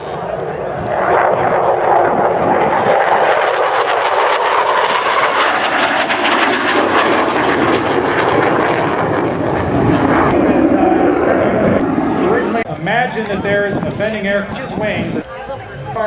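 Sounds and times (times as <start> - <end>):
jet engine roar: 0.0 - 15.3.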